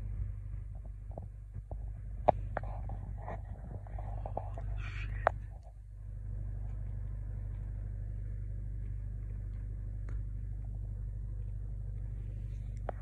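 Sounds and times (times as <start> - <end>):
low mechanical hum: 0.0 - 13.0
faint soft crunch: 0.1 - 13.0.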